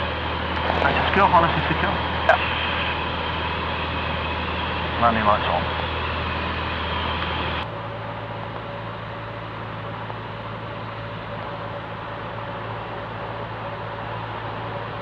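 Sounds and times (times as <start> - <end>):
aircraft piston engine in cabin: 0.0 - 15.0.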